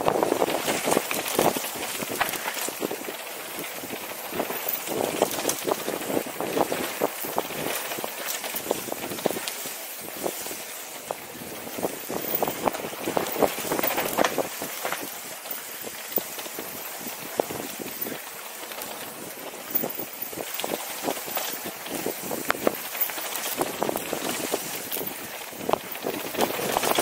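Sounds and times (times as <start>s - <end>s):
bike rattling over bumps: 0.0s - 27.0s
bike tyres rolling on dirt: 0.0s - 27.0s
wind rushing on helmet: 0.0s - 27.0s.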